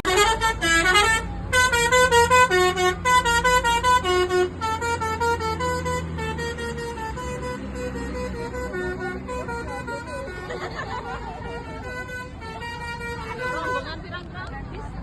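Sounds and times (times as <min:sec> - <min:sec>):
bus horn playing a tune: 0:00.0 - 0:14.1
bus engine idling: 0:00.0 - 0:15.0.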